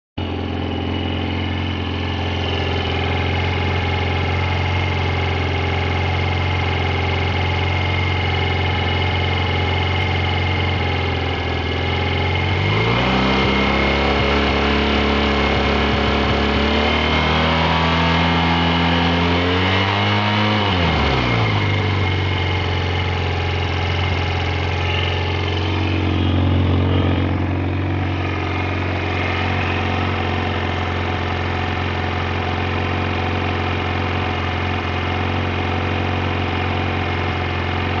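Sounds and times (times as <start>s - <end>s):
motorcycle engine revving and idling: 0.2s - 38.0s.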